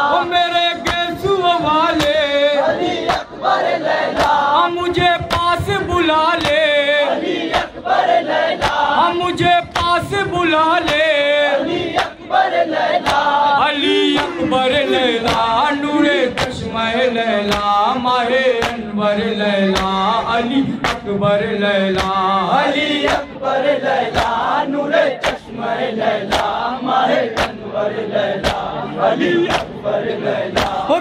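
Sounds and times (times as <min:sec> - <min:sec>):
crowd beating chests in unison: 0:00.0 - 0:31.0
men chanting together: 0:00.0 - 0:31.0.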